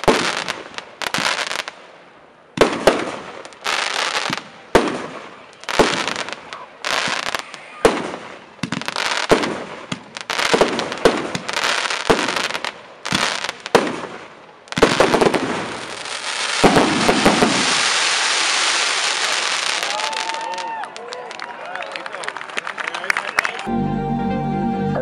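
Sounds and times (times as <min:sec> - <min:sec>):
fireworks shots and bursts: 0:00.0 - 0:20.5
fireworks crackling: 0:00.0 - 0:22.4.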